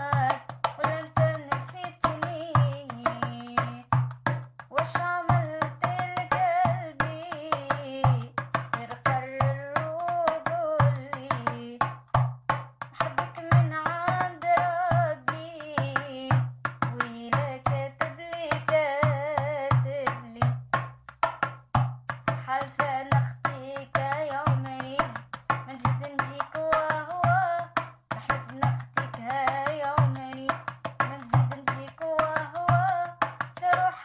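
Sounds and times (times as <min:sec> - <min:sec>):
woman singing: 0:00.0 - 0:04.0, 0:04.6 - 0:11.9, 0:12.8 - 0:20.6, 0:22.3 - 0:34.0.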